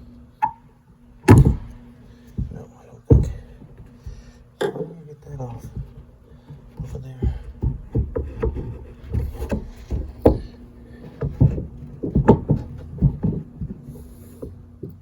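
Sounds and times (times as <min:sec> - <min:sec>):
shifter assembly knocks and clunks: 0:01.2 - 0:04.3, 0:05.6 - 0:15.0.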